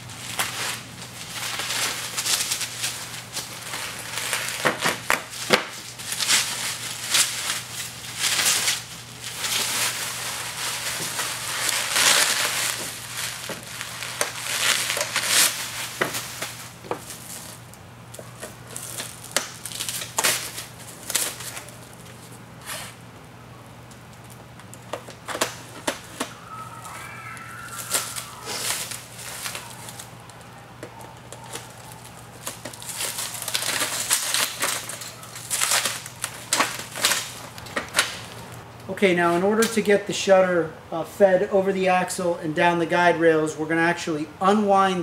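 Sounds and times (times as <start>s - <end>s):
bubble wrap crinkling and crackling: 0.0s - 22.9s, 23.8s - 38.9s.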